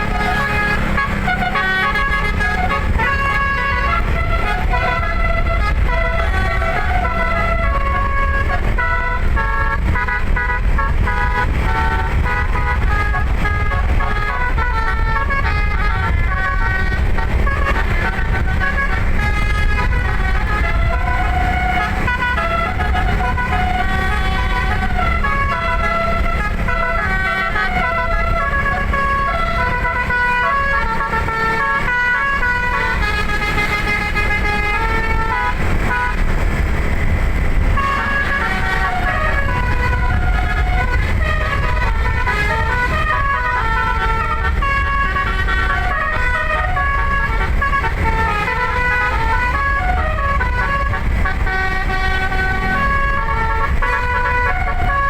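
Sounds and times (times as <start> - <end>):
musical air horn playing a tune: 0.0 - 55.0
steady low rumble: 0.0 - 55.0.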